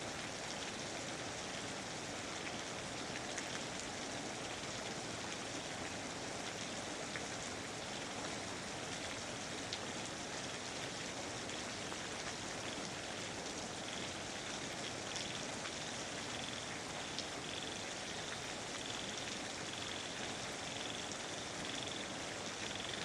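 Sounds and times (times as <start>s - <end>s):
rain falling on foliage: 0.0s - 23.0s.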